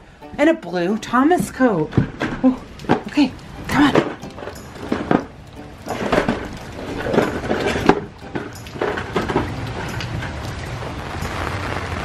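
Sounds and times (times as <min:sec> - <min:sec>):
objects knocking and clattering: 0:01.3 - 0:11.4
rain hiss: 0:02.2 - 0:12.0.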